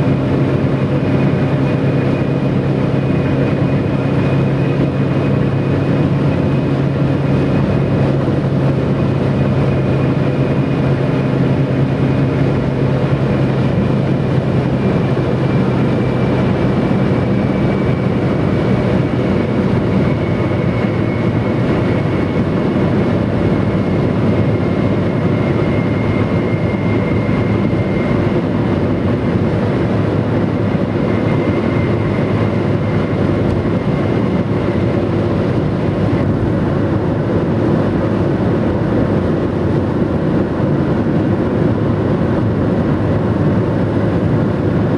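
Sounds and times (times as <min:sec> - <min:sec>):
low drone: 0:00.0 - 0:44.9
road and engine noise: 0:00.0 - 0:44.9.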